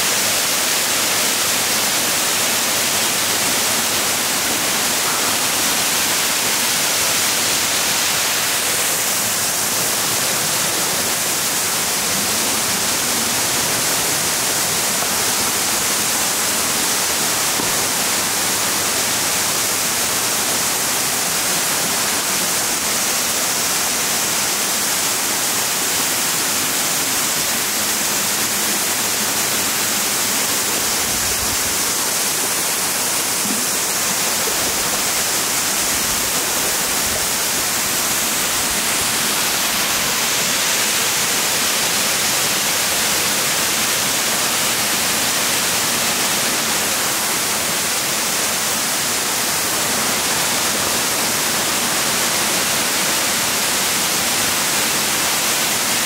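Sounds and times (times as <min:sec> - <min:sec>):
waterfall rushing into pool: 0:00.0 - 0:56.0.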